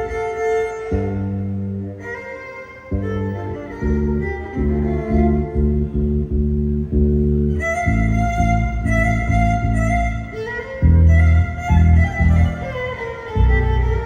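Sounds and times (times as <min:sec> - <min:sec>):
violin melody: 0:00.0 - 0:14.0.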